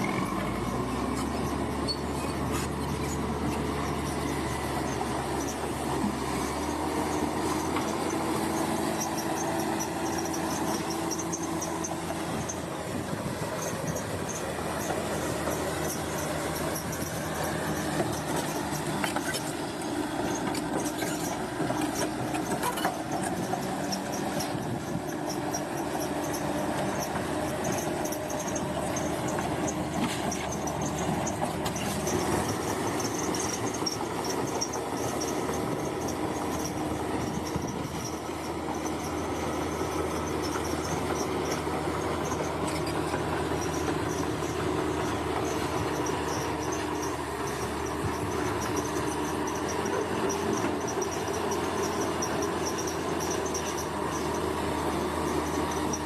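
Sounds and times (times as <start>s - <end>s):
metallic squeal: 0.0s - 5.7s, 13.6s - 56.0s
diesel engine running: 0.0s - 56.0s.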